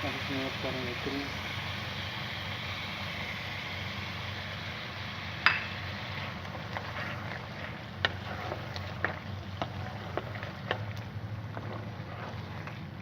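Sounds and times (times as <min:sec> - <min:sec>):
stove hissing: 0:00.0 - 0:13.0.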